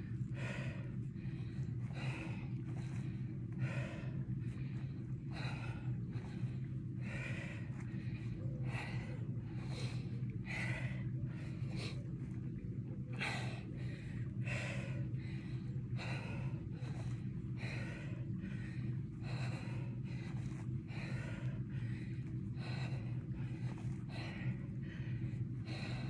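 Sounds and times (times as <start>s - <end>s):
low hum: 0.0s - 26.0s
woman breathing hard: 0.0s - 26.0s.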